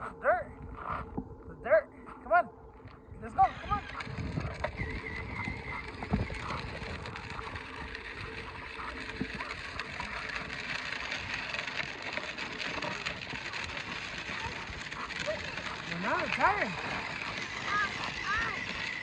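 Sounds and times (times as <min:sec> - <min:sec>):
plastic wheels crunching on gravel: 0:03.4 - 0:19.0.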